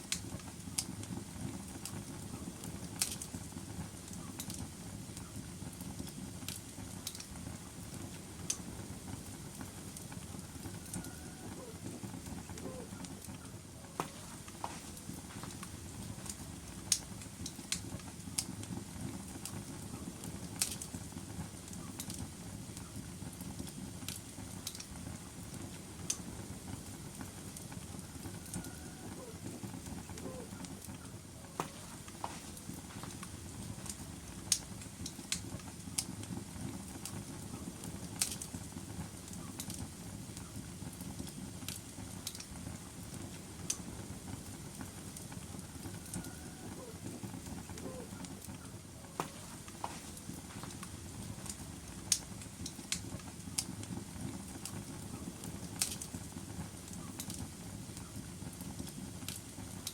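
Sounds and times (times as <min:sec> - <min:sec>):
low rumble of flame: 0:00.0 - 0:59.9
wood crackling and popping: 0:00.0 - 0:59.9.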